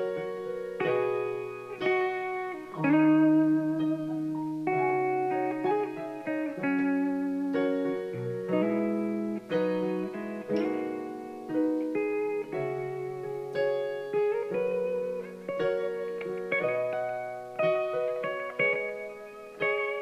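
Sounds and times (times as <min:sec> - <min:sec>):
digital keyboard chords: 0:00.0 - 0:20.0
electric guitar melody: 0:00.0 - 0:20.0.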